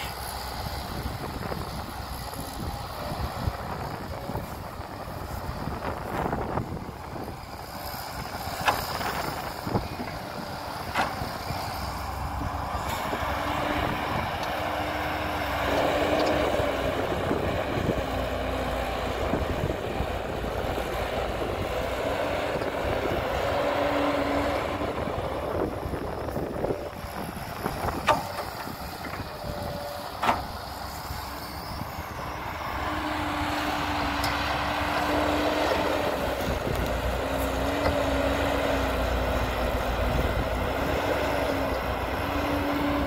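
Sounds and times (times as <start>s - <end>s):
diesel machinery engine running: 0.0s - 43.0s.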